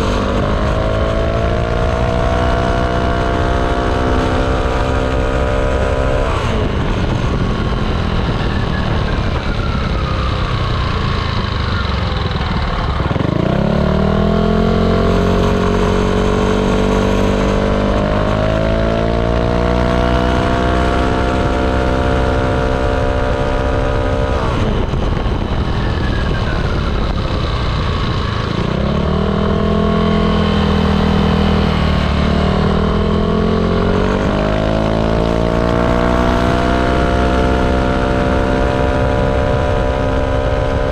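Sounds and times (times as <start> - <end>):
scooter engine revving: 0.0 - 40.9.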